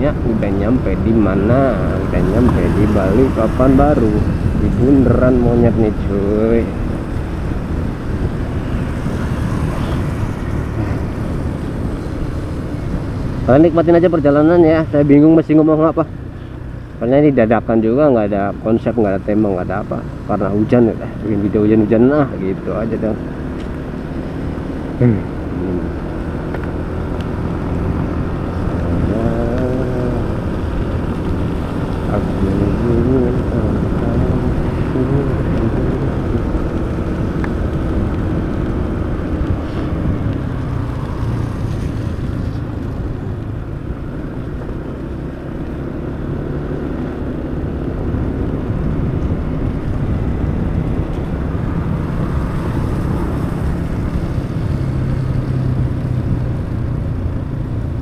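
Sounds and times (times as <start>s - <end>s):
scooter engine hum: 0.0s - 15.3s, 19.4s - 58.0s
wind and tyre noise: 0.0s - 58.0s.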